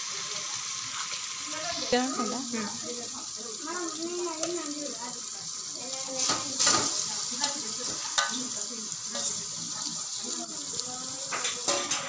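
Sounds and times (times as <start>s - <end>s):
prawns sizzling in hot oil: 0.0s - 12.0s.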